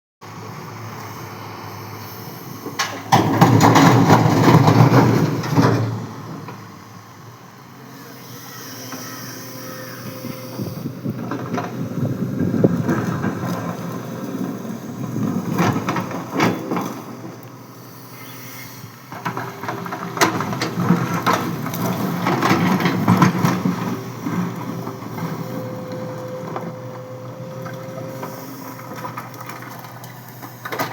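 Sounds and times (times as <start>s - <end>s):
excavator engine humming: 0.2s - 30.9s.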